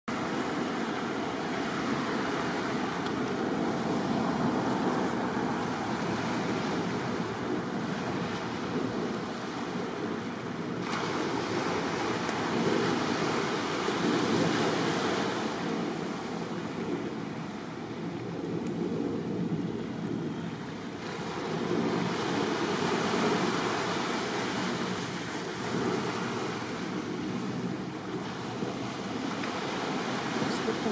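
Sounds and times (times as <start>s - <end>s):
small waves lapping on shore: 0.1s - 30.9s
wind on microphone: 0.1s - 30.9s.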